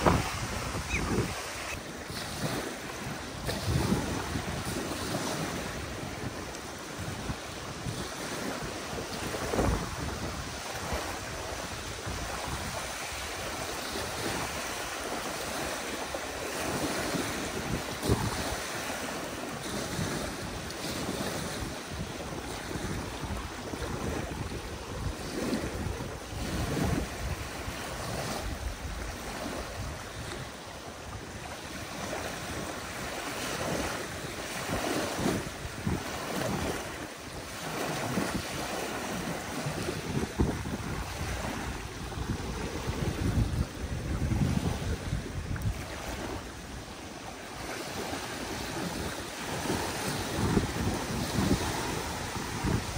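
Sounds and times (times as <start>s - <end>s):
waves lapping on shore: 0.0s - 52.9s
wind rumbling on microphone: 0.0s - 52.9s.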